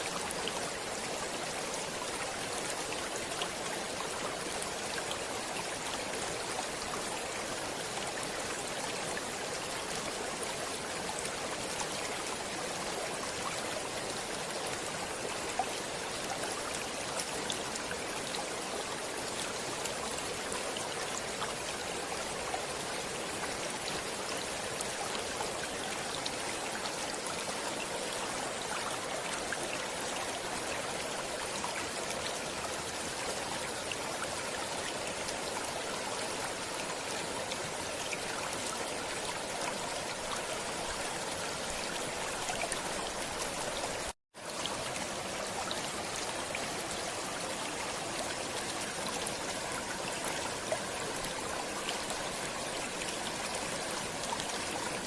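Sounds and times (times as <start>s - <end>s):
stream water running over rocks: 0.0s - 55.0s.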